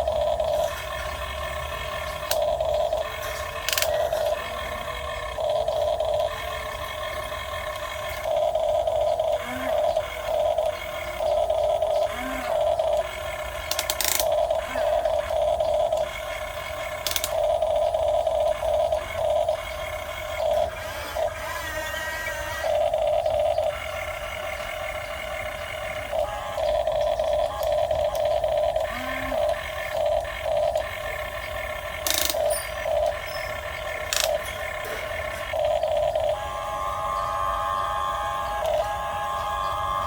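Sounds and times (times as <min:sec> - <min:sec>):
sharp clicks: 0:00.0 - 0:21.7, 0:22.6 - 0:40.0
electric gear motors whining: 0:00.0 - 0:40.0.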